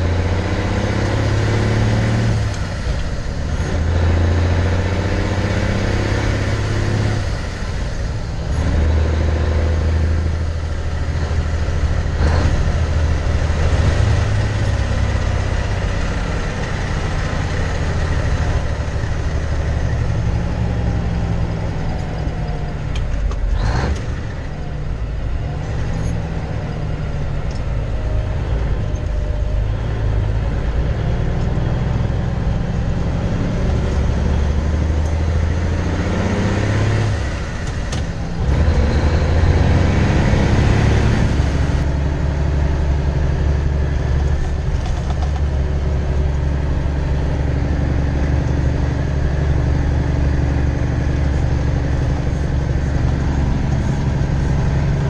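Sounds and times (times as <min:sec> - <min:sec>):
diesel engine droning: 0:00.0 - 0:55.0
road noise: 0:00.0 - 0:55.0.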